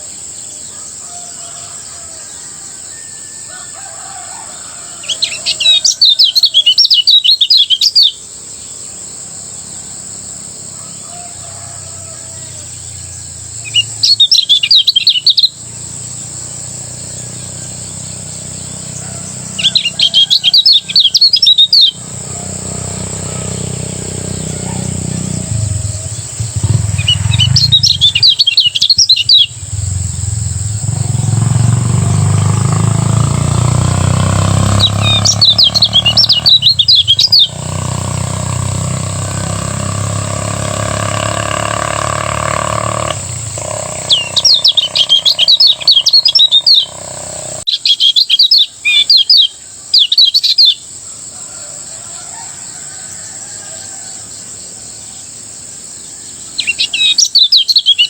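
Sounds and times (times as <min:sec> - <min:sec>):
bird twittering song: 0:00.0 - 0:51.3, 0:56.0 - 0:58.0.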